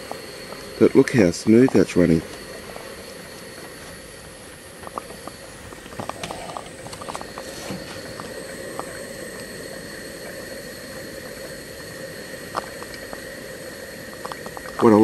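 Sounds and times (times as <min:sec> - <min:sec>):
steam engine hissing: 0:00.0 - 0:15.0.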